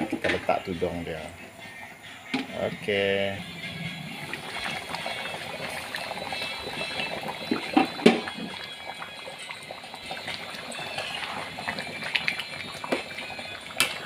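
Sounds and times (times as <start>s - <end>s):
gravy boiling with small pops: 0.0s - 1.3s, 2.3s - 14.0s.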